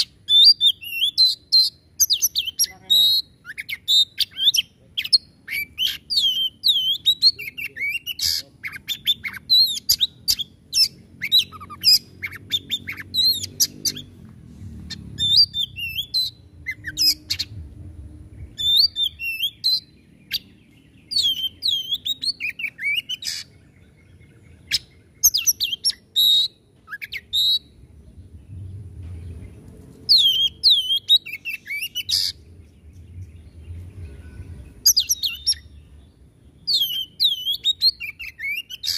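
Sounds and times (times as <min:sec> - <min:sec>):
songbird whistling song: 0:00.0 - 0:14.2, 0:14.9 - 0:17.6, 0:18.2 - 0:38.9.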